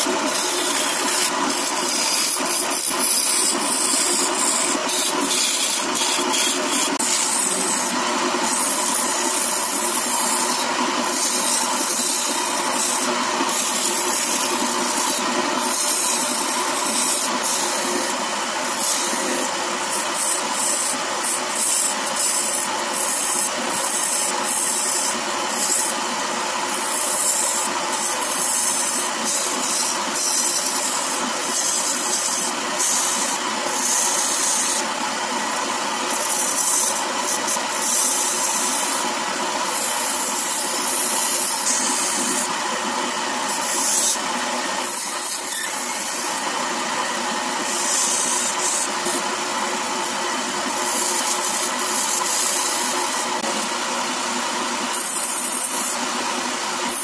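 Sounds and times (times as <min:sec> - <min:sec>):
lathe motor hum: 0:00.0 - 0:57.0
tool hissing cutting wood: 0:00.0 - 0:57.0.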